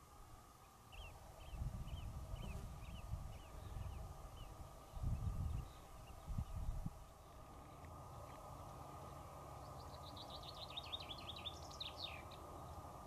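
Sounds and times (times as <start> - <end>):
bird chirping: 0.6 - 8.8, 9.5 - 12.9.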